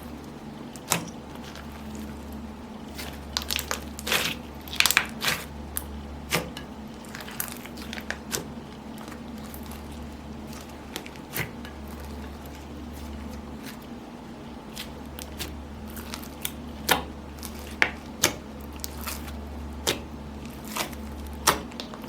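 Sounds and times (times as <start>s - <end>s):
faint low hum: 0.0s - 22.0s
slime squishing and popping: 2.9s - 13.9s, 14.7s - 22.0s.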